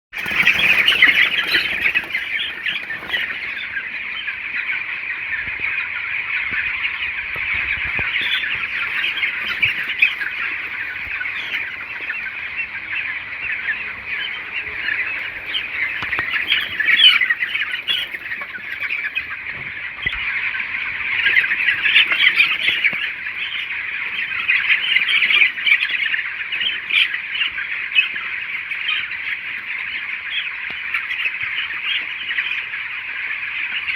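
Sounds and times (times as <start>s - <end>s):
chicks cheeping: 0.0s - 33.9s.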